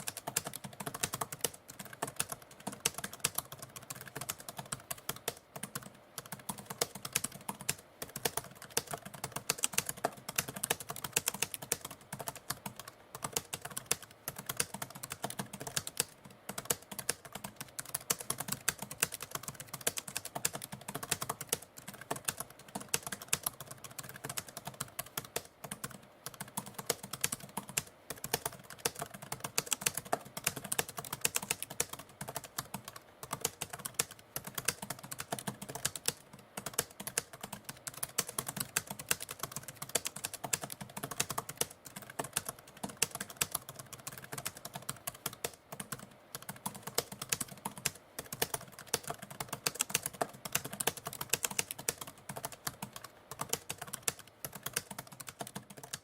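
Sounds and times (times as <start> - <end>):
typewriter keys clicking: 0.0 - 56.0.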